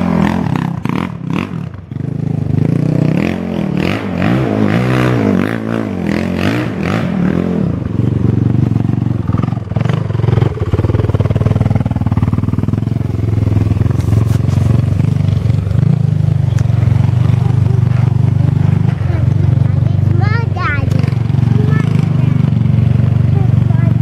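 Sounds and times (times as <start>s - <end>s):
quad engine revving and idling: 0.0s - 24.0s.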